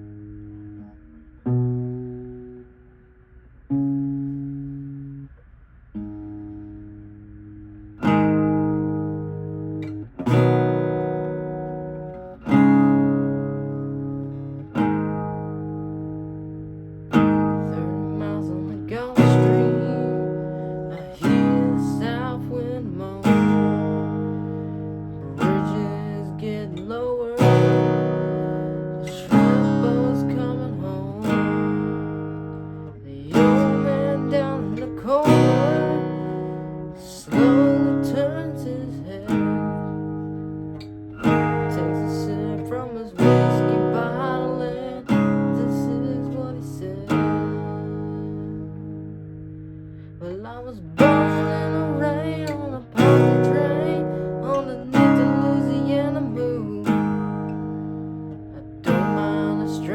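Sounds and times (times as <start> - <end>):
acoustic guitar chords: 0.0 - 59.9.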